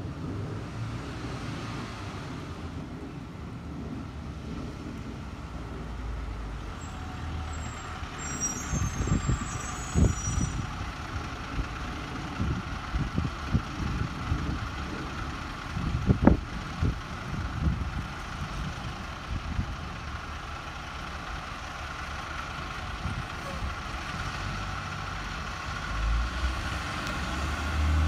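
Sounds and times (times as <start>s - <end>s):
distant diesel bus engine: 0.0s - 28.0s.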